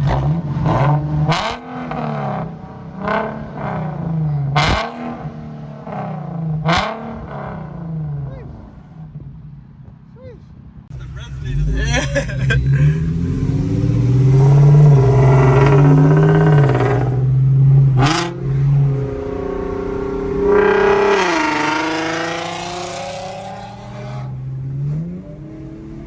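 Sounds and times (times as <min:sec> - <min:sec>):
car engine accelerating: 0:00.0 - 0:09.2, 0:10.9 - 0:26.0.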